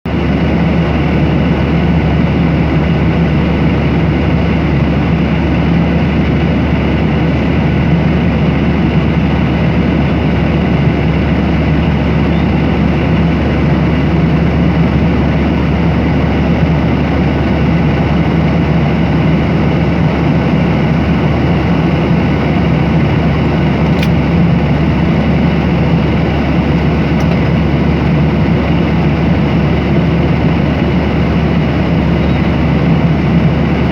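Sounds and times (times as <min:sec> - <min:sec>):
airliner engines and airflow drone: 0:00.1 - 0:33.9.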